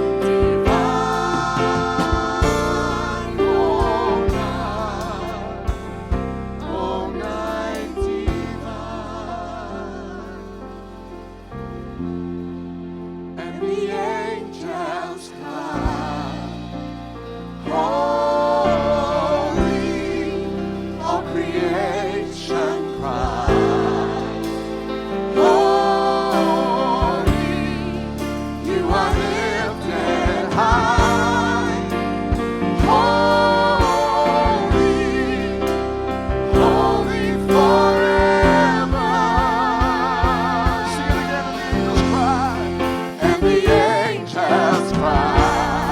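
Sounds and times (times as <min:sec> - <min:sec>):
gospel singing: 0:00.0 - 0:45.9
sustained accompaniment: 0:00.0 - 0:45.9.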